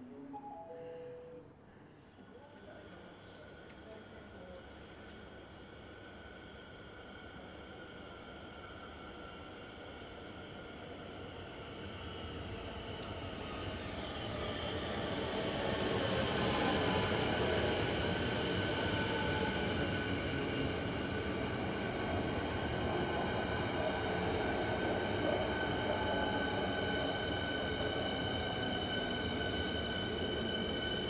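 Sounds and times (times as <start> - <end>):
electric train rumble: 3.4 - 31.0.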